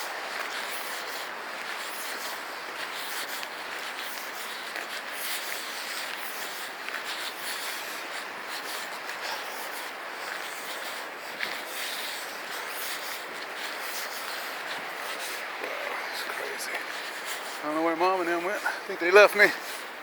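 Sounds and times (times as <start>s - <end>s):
light scuffs: 0.0s - 19.9s
creek rushing: 0.0s - 20.0s.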